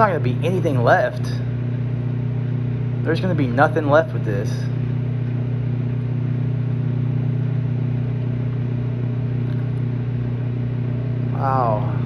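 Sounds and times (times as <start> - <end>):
microwave oven hum: 0.0 - 12.0.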